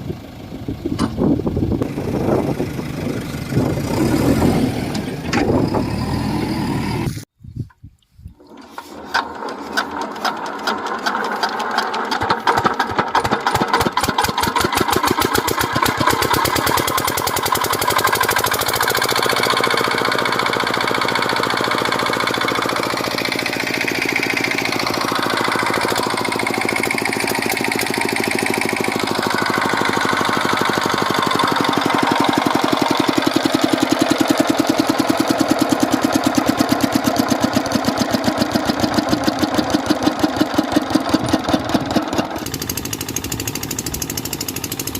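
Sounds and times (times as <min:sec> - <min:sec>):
diesel engine running: 0:00.0 - 0:07.3, 0:09.2 - 0:44.9.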